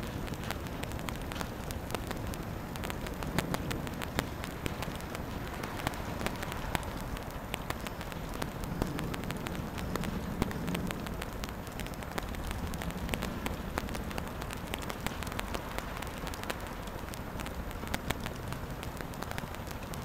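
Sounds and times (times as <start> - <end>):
sharp raindrop hits: 0.0 - 20.0
steady rain hiss: 0.0 - 20.0.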